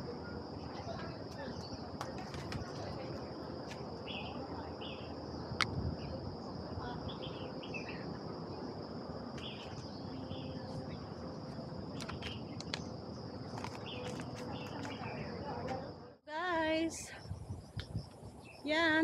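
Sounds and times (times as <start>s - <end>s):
insects buzzing: 0.2s - 19.0s.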